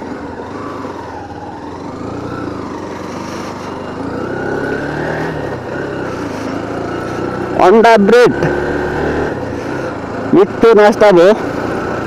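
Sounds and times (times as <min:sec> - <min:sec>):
motorcycle engine running: 0:00.0 - 0:12.0
road noise: 0:00.0 - 0:12.0.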